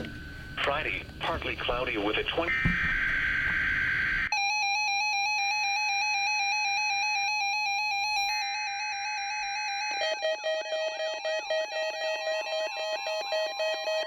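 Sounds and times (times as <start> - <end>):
steady warning alarm tone: 0.0 - 14.0.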